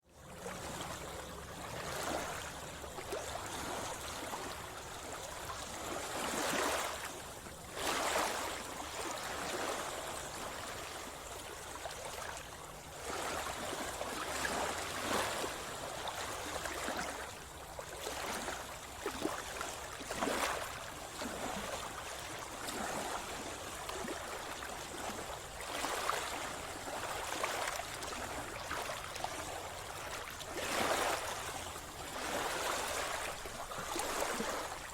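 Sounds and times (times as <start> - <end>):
sea water splashing and gurgling: 0.2 - 34.9.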